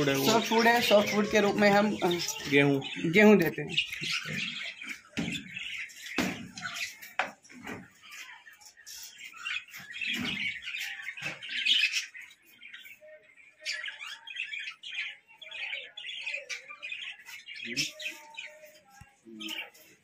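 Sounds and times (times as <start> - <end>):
budgerigars chattering and chirping: 0.0 - 20.0.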